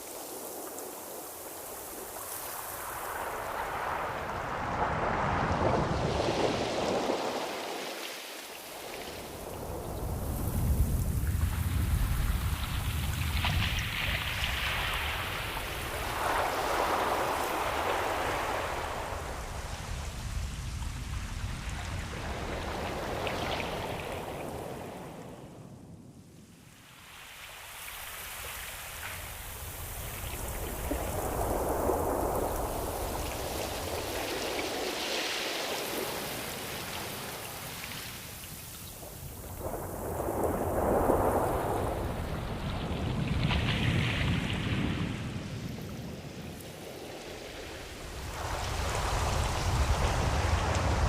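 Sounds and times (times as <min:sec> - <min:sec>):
ocean waves surging: 0:00.0 - 0:25.7, 0:27.0 - 0:51.0.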